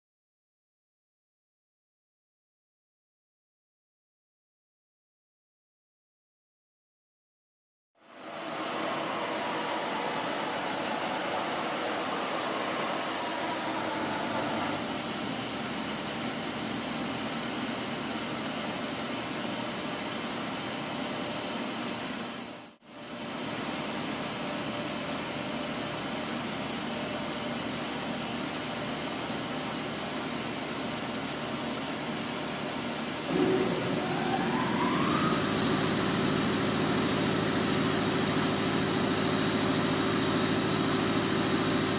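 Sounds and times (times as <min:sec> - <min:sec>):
milling machine hum and whine: 0:08.0 - 0:41.9
rising machine whine: 0:08.0 - 0:41.9.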